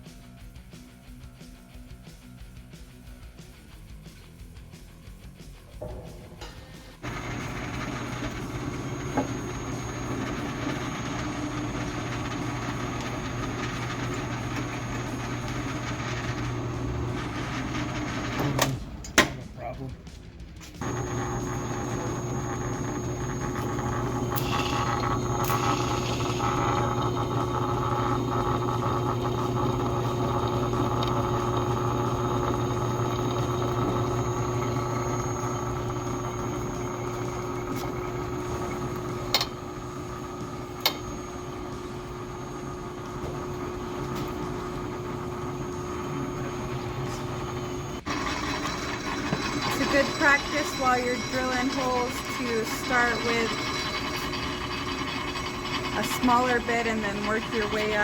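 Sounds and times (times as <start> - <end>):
drill press motor humming: 5.8 - 19.6, 20.8 - 58.0.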